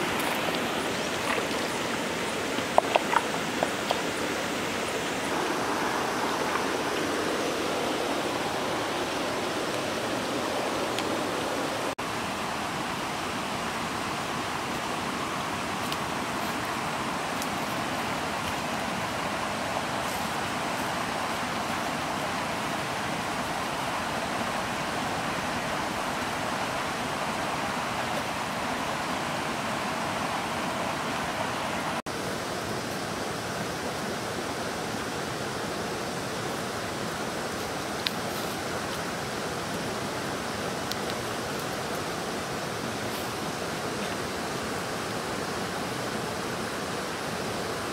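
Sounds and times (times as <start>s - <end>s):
river flowing: 0.0s - 47.9s.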